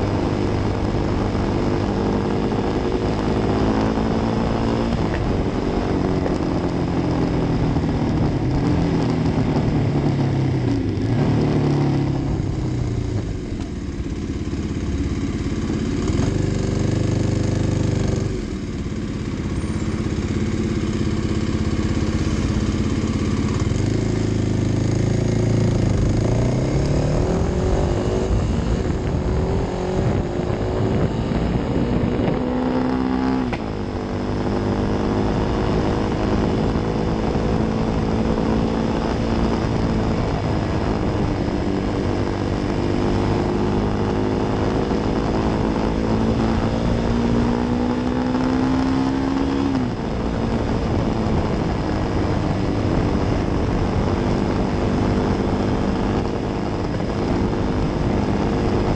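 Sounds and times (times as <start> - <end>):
motorcycle engine: 0.0 - 58.9
wind and road rush: 0.0 - 58.9.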